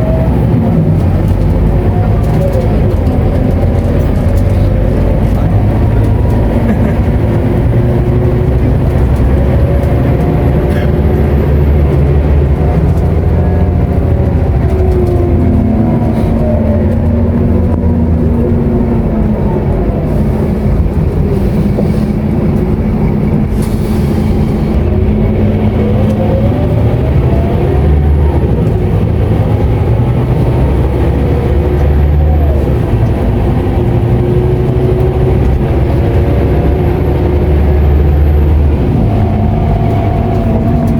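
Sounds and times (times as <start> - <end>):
bus diesel engine rumbling: 0.0 - 40.9.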